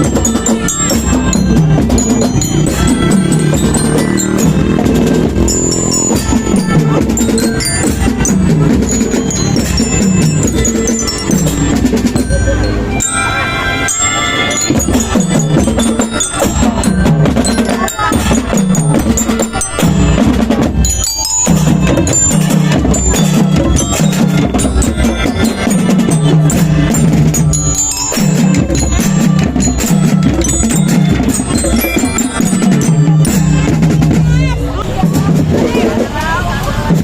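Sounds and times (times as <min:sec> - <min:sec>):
marching band drums: 0:00.0 - 0:12.8, 0:14.5 - 0:37.0
bell lyre playing tune: 0:00.0 - 0:34.6.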